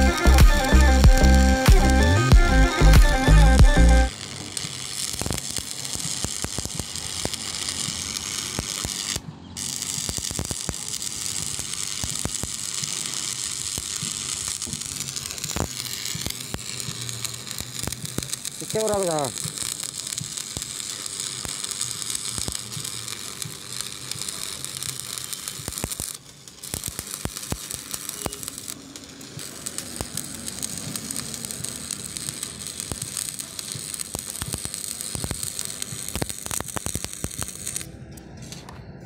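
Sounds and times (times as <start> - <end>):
welding arc crackling: 0.0 - 38.7.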